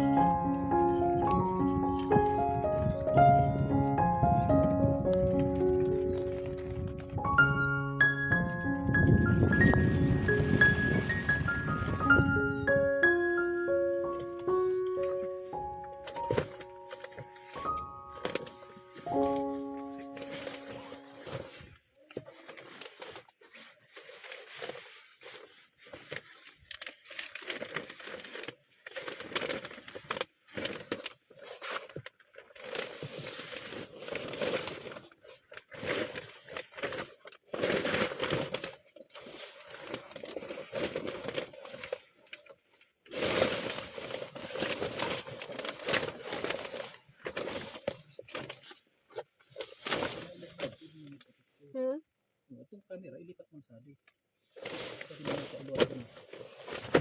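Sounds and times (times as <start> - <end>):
rustling and crackling: 4.4 - 51.9, 54.4 - 57.0.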